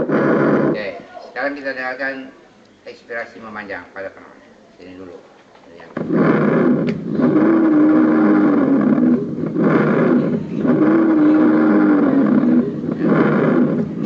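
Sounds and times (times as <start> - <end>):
recorded breath sounds: 0.0 - 3.4, 4.2 - 14.0.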